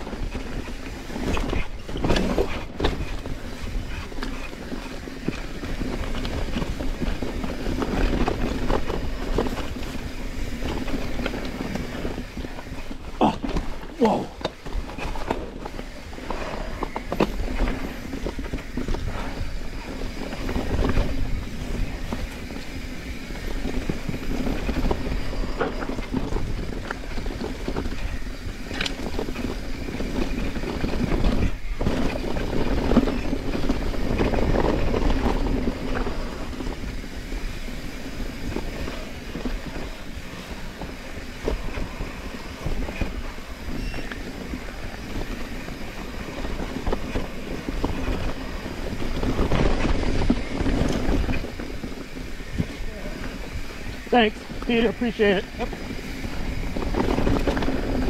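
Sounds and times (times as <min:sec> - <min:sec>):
bike rattling: 0:00.0 - 0:58.0
bike tyres rumbling on dirt: 0:00.0 - 0:58.0.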